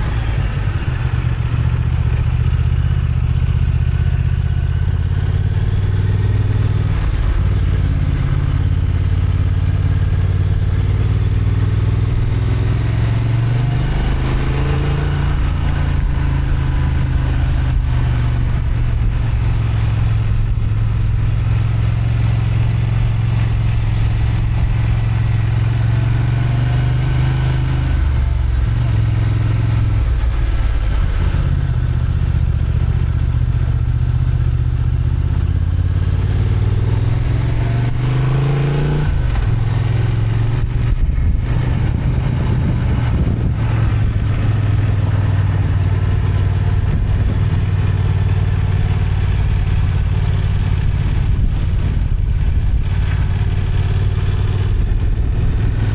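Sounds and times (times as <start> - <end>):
motorcycle engine under load: 0.0 - 55.9.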